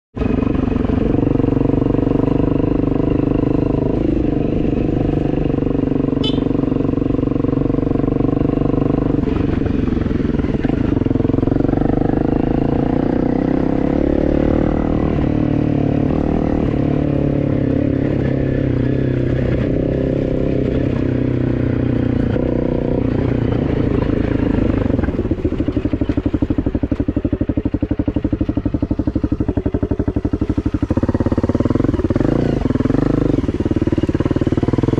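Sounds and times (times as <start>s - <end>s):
vehicle engine running: 0.2s - 34.9s.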